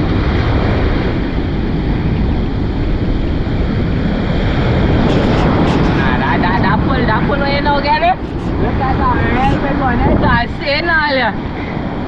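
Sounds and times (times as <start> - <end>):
surf breaking on sand: 0.0 - 12.0
wind buffeting microphone: 0.0 - 12.0.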